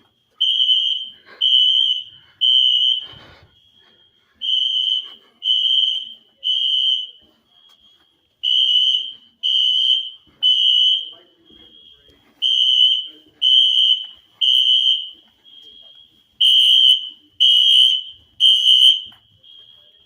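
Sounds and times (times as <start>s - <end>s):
fire alarm horn blasts: 0.0s - 20.0s.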